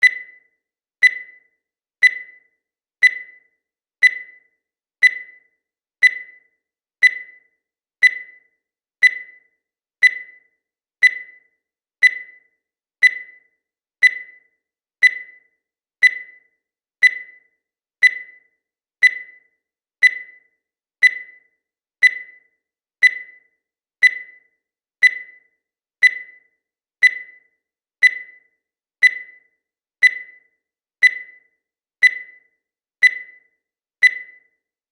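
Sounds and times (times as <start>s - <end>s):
countdown timer beeping: 0.0s - 34.7s.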